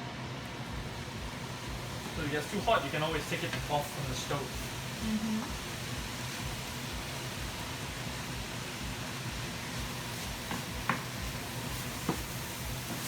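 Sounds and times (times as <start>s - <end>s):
beef sizzling in a pot: 0.0s - 13.0s.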